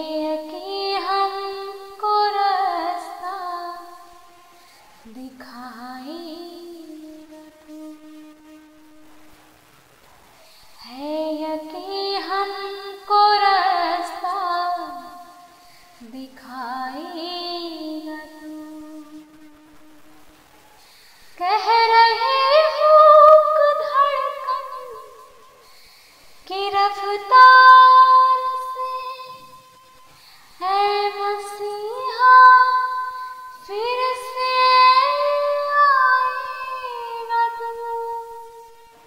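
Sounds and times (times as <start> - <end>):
woman singing: 0.0 - 9.0, 10.8 - 20.1, 21.4 - 25.8, 26.4 - 39.0.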